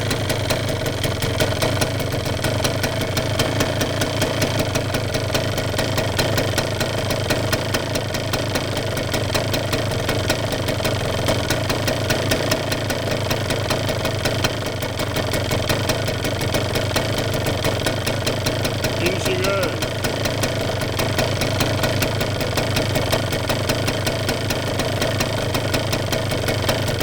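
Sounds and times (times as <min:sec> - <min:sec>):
two-stroke engine idling: 0:00.0 - 0:27.0.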